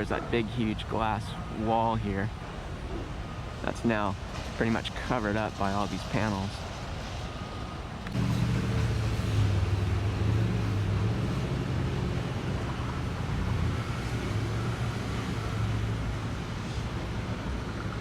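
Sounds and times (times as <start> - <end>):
low engine hum: 0.0 - 18.0
road noise: 0.0 - 18.0.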